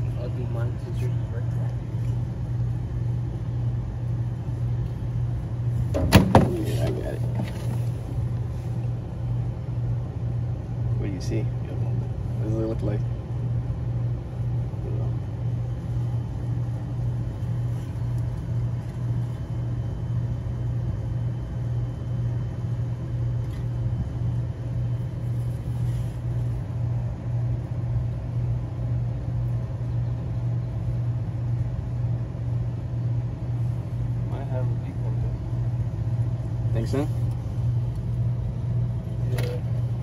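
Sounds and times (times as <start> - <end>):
machinery low drone: 0.0 - 40.0.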